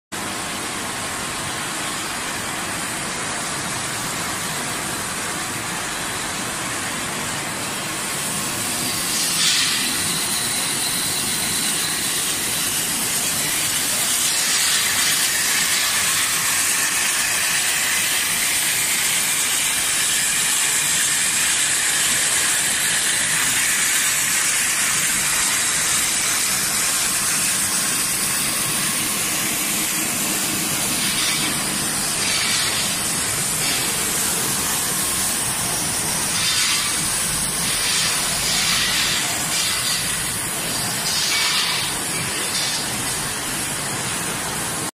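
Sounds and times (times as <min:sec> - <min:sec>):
factory machinery hiss: 0:00.2 - 0:44.9.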